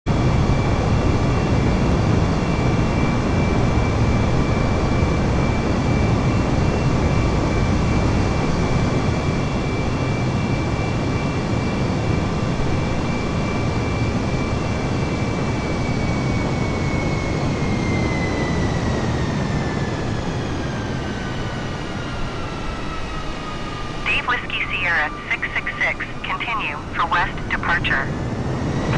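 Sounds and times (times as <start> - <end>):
jet engines rumbling and whining: 0.1 - 28.9.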